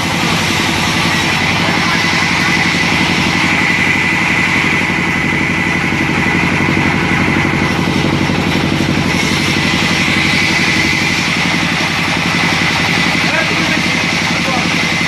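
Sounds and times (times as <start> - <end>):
band saw drive drone: 0.0 - 15.0
saw blade high whine: 0.0 - 15.0.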